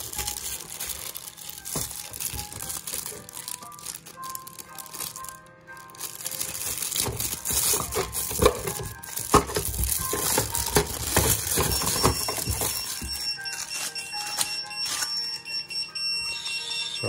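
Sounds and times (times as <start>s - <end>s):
plastic bag crinkling: 0.0s - 15.1s.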